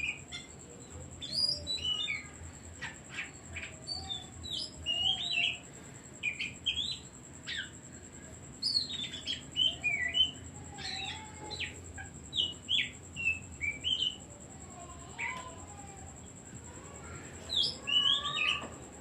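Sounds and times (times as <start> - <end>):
bird singing whistles and chatter: 0.0 - 7.8, 8.5 - 15.6, 16.6 - 19.0.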